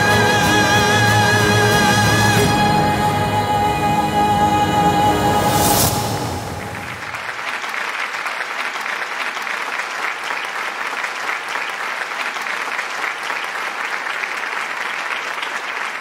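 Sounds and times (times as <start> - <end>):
audience applauding: 0.0 - 3.4, 6.0 - 16.0.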